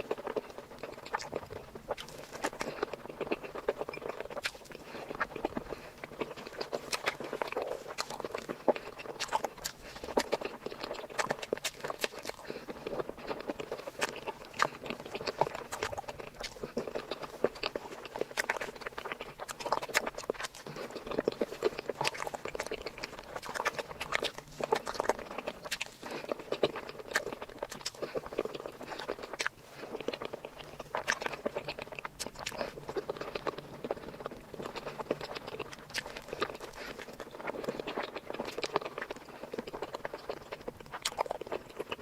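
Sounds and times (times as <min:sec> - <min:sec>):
person chewing crunchy sweet: 0:00.0 - 0:42.0.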